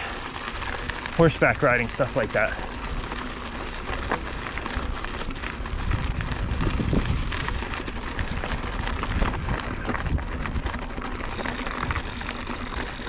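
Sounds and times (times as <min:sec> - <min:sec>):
bike tyres crunching on gravel: 0:00.0 - 0:13.0
small clicks and rattles: 0:00.0 - 0:13.0.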